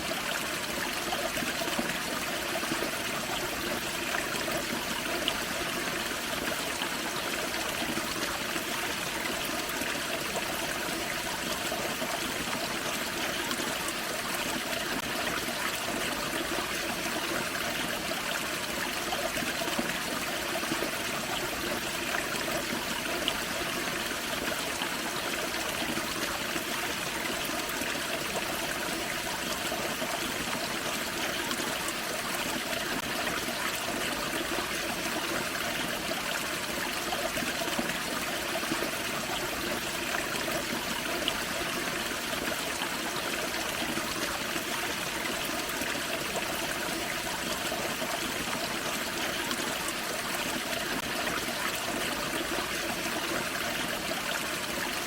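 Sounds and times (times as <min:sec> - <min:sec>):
creek water splashing and trickling: 0:00.0 - 0:55.0.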